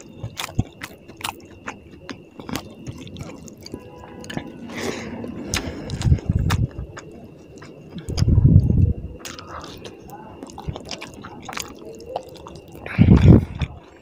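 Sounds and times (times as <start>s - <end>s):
fingers squishing food: 0.0s - 4.6s, 5.2s - 14.0s
muffled chewing: 0.0s - 14.0s.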